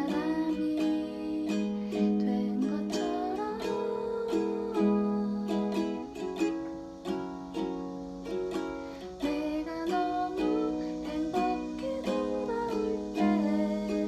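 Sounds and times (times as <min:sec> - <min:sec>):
ukulele plucked notes and chords: 0:00.0 - 0:14.0.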